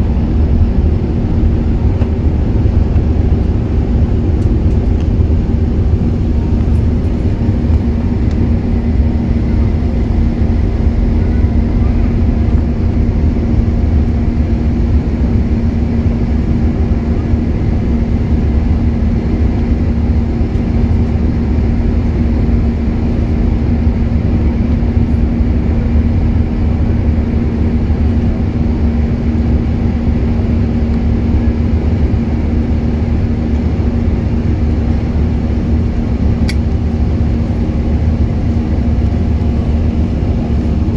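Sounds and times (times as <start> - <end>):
jet engines roaring at takeoff: 0.0 - 40.9.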